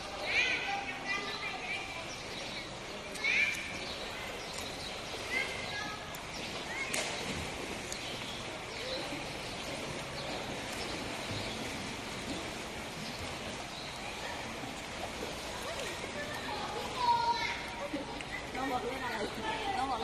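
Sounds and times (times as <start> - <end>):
swimmers splashing in pool: 0.0 - 20.0.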